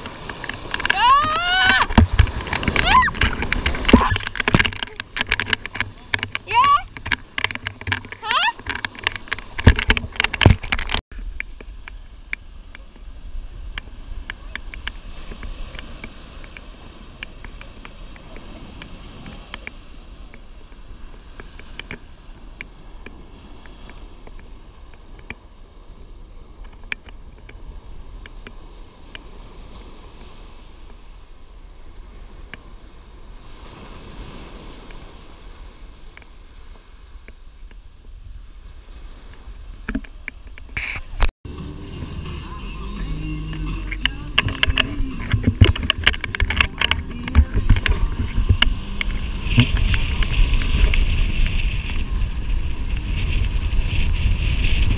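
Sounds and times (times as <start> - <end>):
surf washing: 0.0 - 54.9
water splashing and sloshing: 0.0 - 54.9
wind: 0.0 - 54.9.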